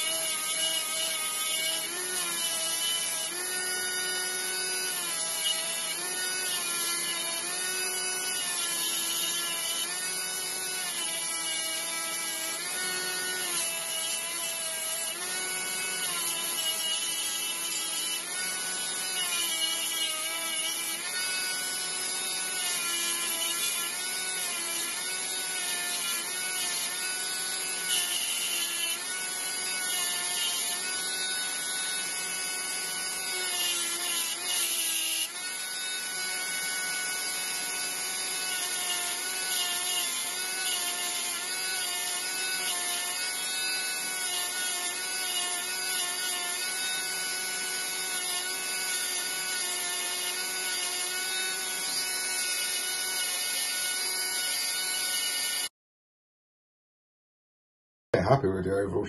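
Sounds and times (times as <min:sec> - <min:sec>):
rotary tool grinding stone: 0:00.0 - 0:55.7.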